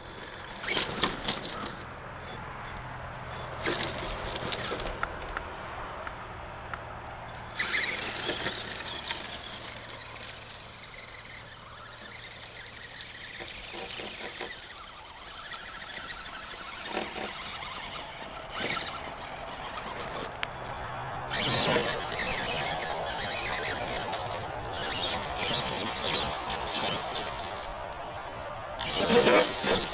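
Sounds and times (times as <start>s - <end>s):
electric motor and gears whining: 0.0s - 29.9s
tyres crunching over ground: 0.0s - 29.9s.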